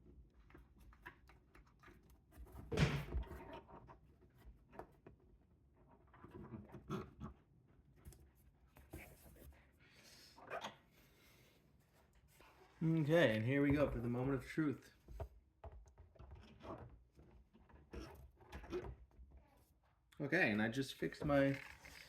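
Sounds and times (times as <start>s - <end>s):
rubs scrapes and small knocks: 0.0s - 10.2s, 10.8s - 22.0s.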